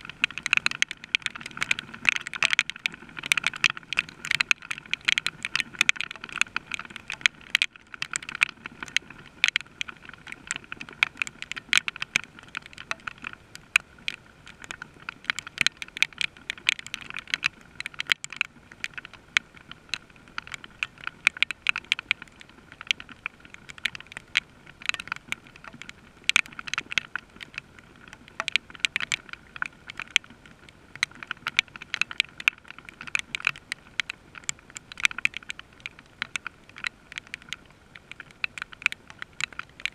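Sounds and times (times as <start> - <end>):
faint rain hiss: 0.0 - 39.9
raindrops ticking on hard surface: 0.0 - 39.9.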